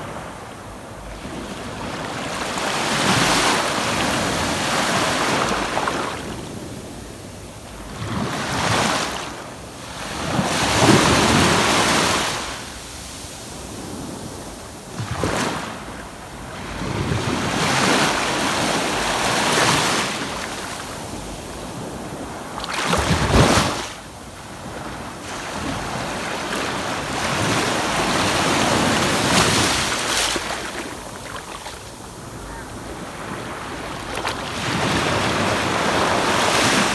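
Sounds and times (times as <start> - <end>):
ocean waves breaking on beach: 0.0 - 36.9.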